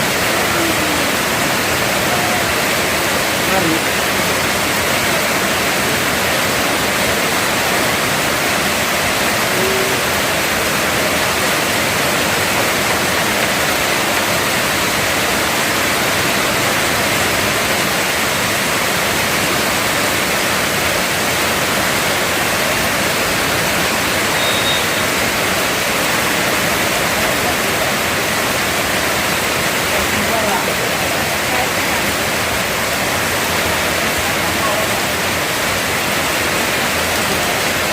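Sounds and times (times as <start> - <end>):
heavy rain hissing: 0.0 - 37.9.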